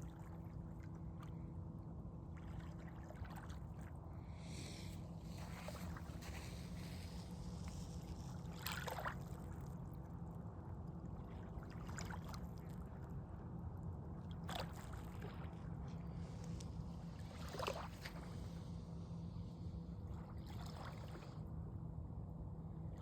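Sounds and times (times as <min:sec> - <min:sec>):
small waves lapping on shore: 0:00.0 - 0:10.4, 0:11.0 - 0:13.2, 0:14.3 - 0:21.6
wind rumble on microphone: 0:00.0 - 0:23.0.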